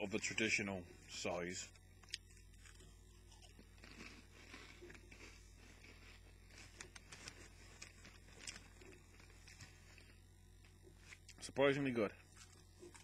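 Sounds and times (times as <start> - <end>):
crunchy snacks being chewed: 1.7 - 11.4, 12.2 - 13.0.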